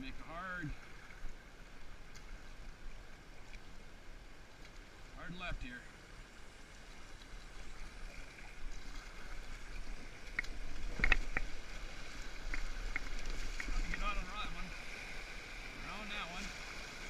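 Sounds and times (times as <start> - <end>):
muffled rushing river water: 0.0 - 17.0.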